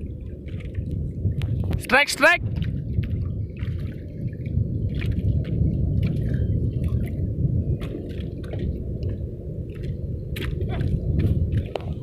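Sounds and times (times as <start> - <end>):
low rumble: 0.0 - 12.0
water splashing and dripping: 0.0 - 12.0.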